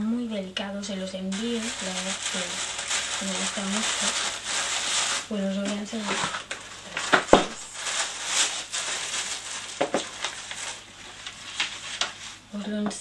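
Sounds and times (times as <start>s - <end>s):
packing wrap crinkling: 1.3s - 12.6s.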